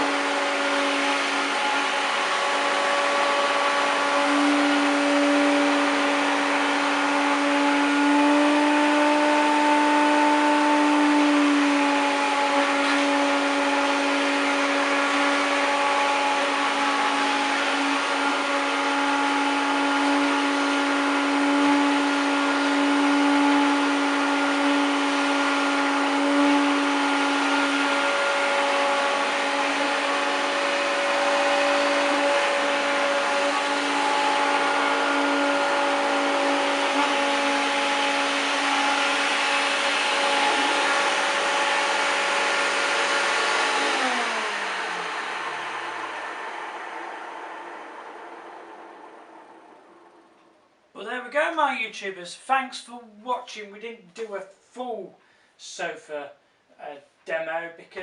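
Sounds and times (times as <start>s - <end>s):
vacuum cleaner running: 0.0s - 50.6s.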